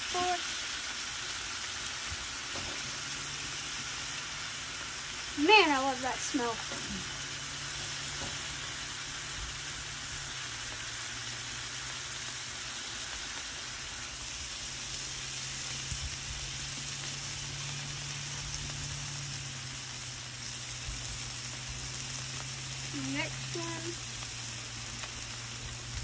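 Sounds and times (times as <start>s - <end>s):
burger patties sizzling on griddle: 0.0s - 26.0s.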